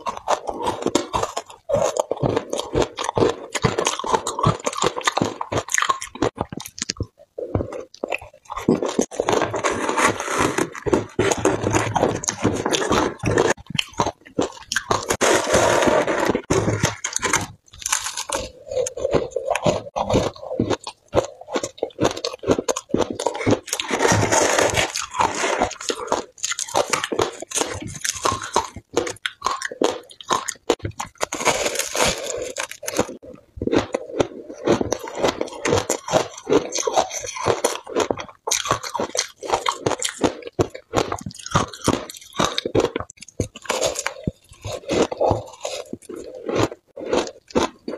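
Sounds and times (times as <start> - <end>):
ice being chewed: 0.0 - 47.9.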